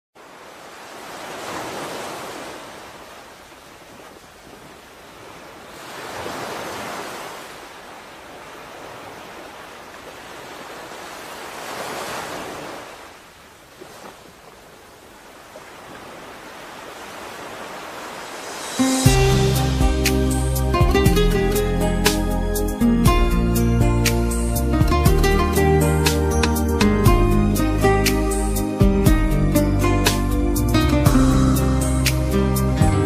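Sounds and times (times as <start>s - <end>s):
ocean waves washing in: 0.2s - 33.0s.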